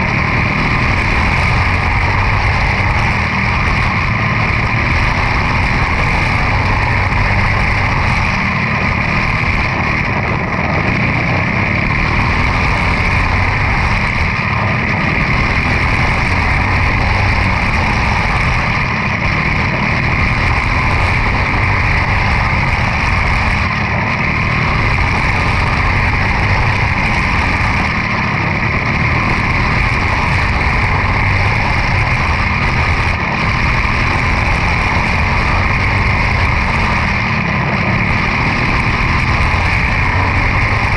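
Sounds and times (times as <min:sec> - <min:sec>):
race car engine running loud: 0:00.0 - 0:40.9.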